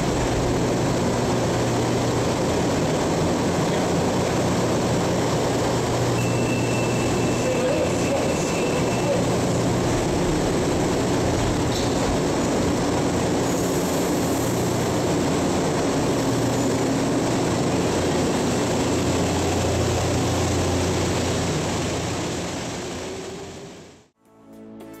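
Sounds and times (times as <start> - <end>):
metro train humming and running: 0.0 - 24.9.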